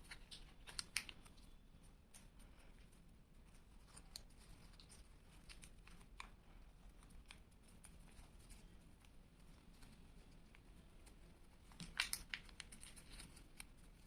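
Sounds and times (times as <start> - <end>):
paper crinkling: 0.0 - 2.4, 3.4 - 14.0
low room hum: 0.0 - 14.0.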